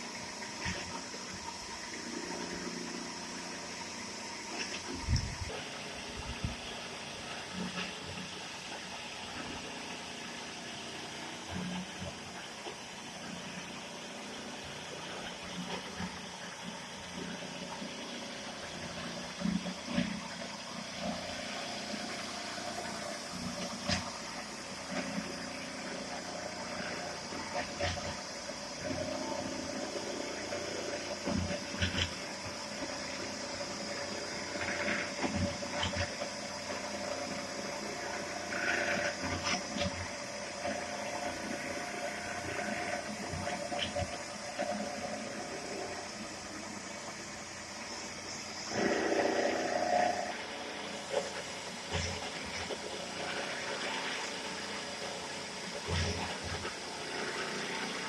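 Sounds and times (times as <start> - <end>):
milling machine hum and whine: 0.0 - 58.0.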